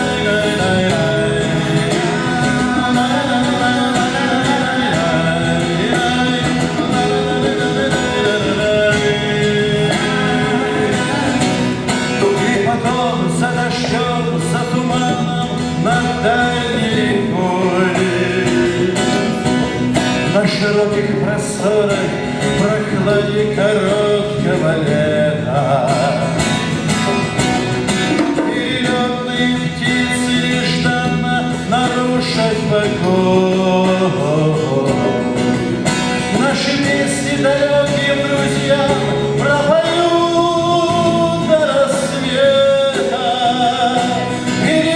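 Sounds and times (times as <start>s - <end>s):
person singing: 0.0s - 27.2s, 28.1s - 44.9s
acoustic guitar accompaniment: 0.0s - 44.9s.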